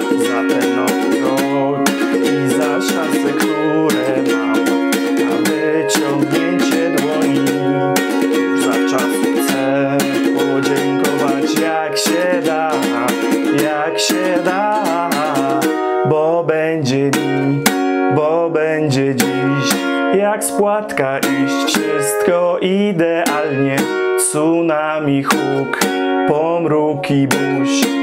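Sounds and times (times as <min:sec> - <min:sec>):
pop song with singing: 0:00.0 - 0:28.0
ukulele strumming: 0:00.0 - 0:28.0.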